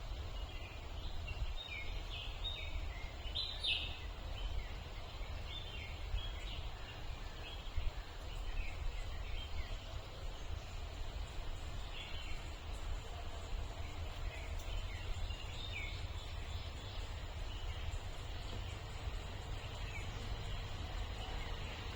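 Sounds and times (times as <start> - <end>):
birds chirping: 0.1 - 21.9.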